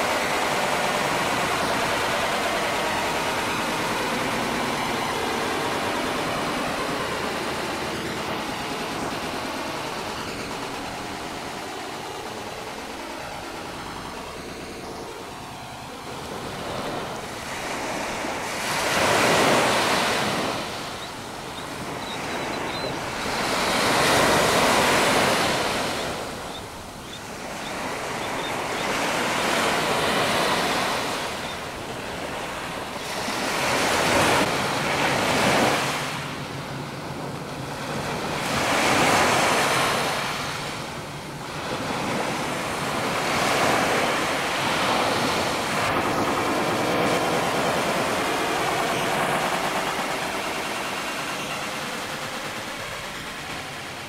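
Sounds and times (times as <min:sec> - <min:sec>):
small waves washing onto beach: 0:00.0 - 0:54.0.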